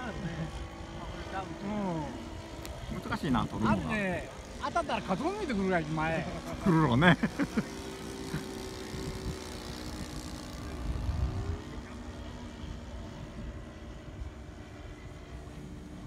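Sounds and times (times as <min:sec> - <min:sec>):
model plane engines droning: 0:00.0 - 0:16.0.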